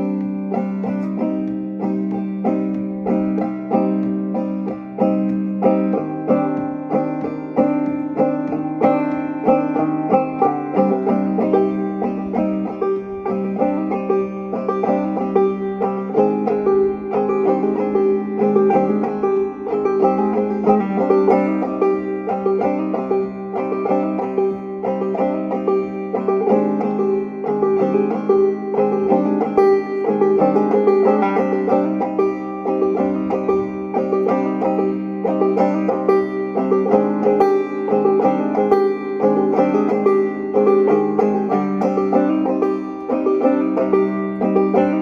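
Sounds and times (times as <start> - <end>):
banjo folk tune: 0.0 - 45.0.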